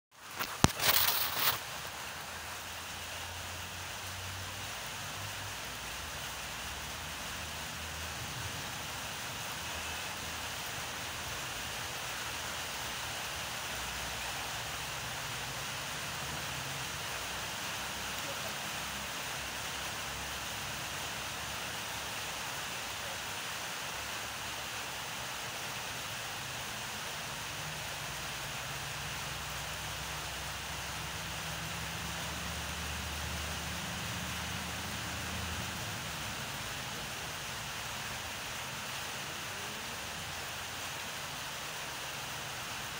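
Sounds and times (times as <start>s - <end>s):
outdoor background hiss: 0.2s - 42.9s.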